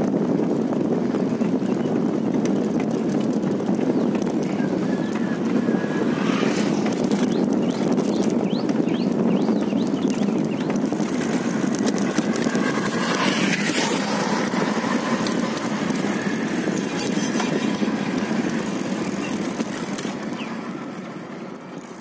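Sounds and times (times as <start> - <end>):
road noise: 0.0 - 22.0
rushing wind: 0.0 - 22.0.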